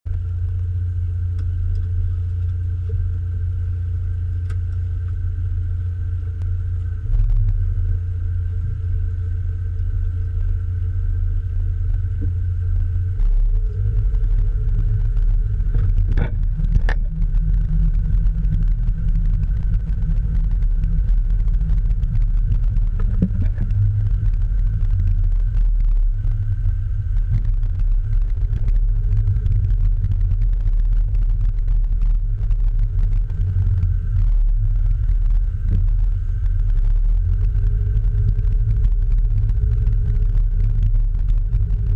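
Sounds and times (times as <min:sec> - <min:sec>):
low engine-like rumble: 0:00.0 - 0:41.9
faint steady tones: 0:00.1 - 0:41.9.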